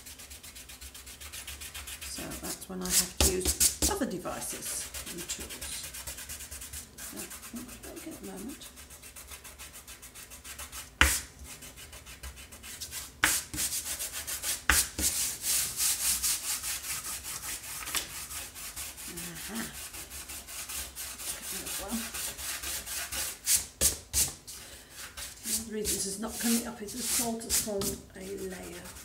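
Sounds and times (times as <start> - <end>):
fingertips rubbing paper: 0.0 - 24.3, 25.0 - 29.0.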